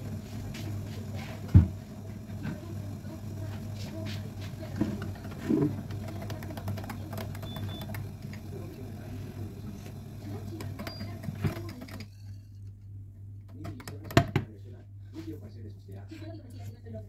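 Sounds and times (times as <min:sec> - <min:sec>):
kitchen buzz: 0:00.0 - 0:14.5.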